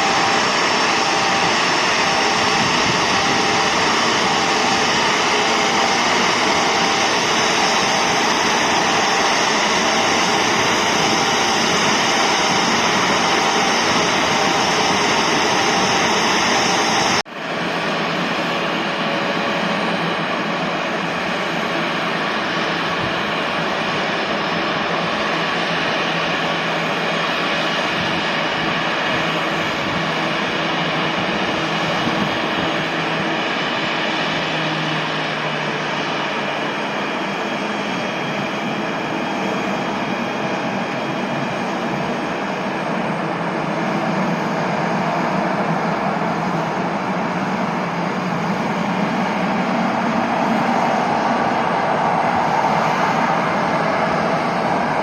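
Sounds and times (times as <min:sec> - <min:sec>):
jet engines rushing: 0:00.0 - 0:55.0.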